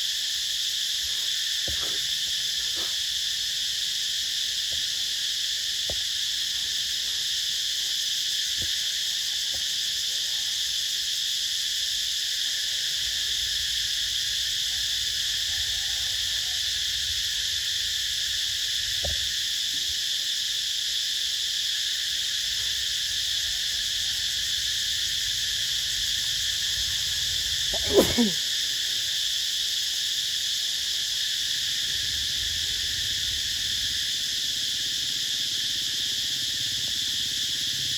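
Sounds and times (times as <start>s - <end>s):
insect chorus drone: 0.0s - 37.9s.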